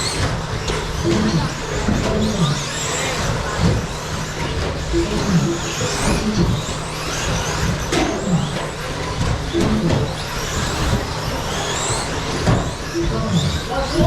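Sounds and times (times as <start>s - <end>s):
electric model truck motors whining: 0.0s - 14.0s.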